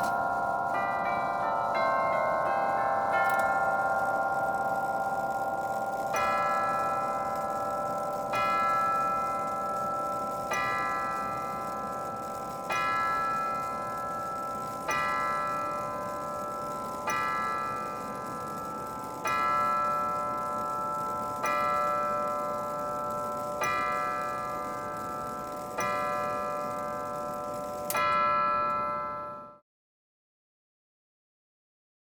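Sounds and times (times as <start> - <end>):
clock tubular chime striking: 0.0 - 29.6.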